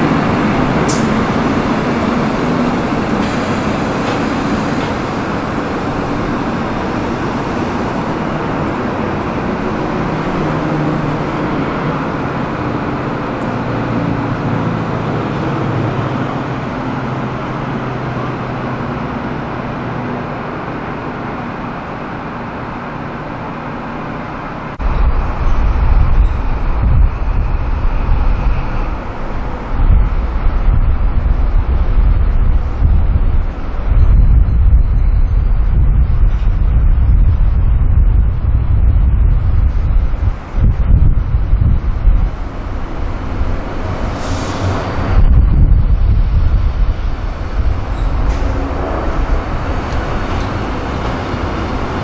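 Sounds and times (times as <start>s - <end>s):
diesel railcar engines running: 0.0s - 52.0s
wind buffeting microphone: 0.0s - 52.0s.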